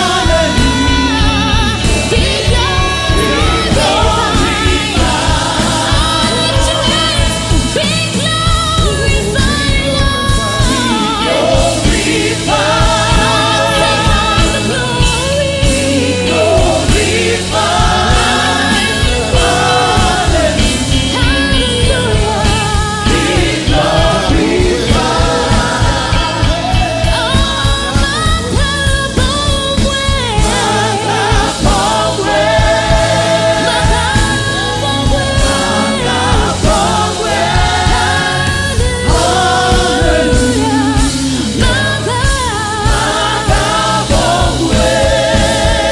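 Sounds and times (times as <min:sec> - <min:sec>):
gospel choir singing: 0:00.0 - 0:45.9
live band playing a steady beat: 0:00.0 - 0:45.9.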